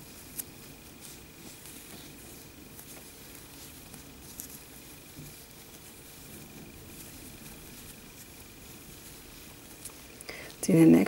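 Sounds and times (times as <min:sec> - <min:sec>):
yarn rustling: 0:00.0 - 0:11.0.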